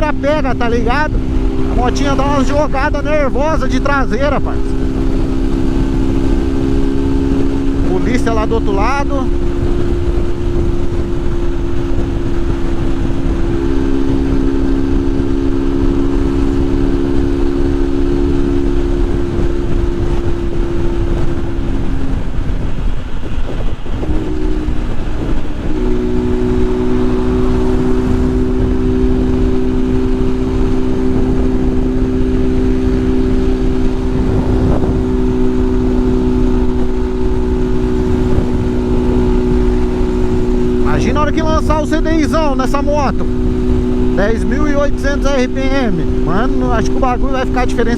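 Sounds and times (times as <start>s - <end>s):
motorcycle engine running: 0.0s - 47.9s
wind rush over microphone: 0.0s - 47.9s.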